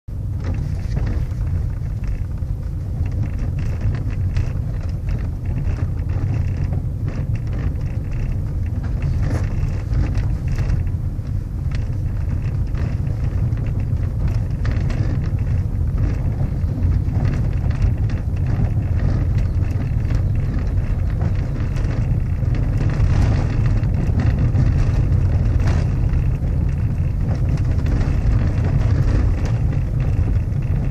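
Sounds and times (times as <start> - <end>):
car road rumble: 0.0 - 30.9.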